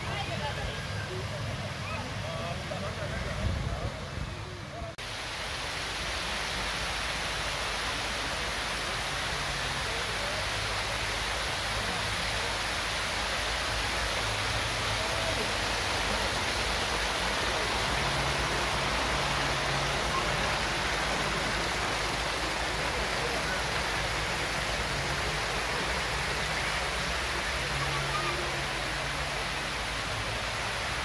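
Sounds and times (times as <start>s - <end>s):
river water rushing over a weir: 0.0s - 31.0s.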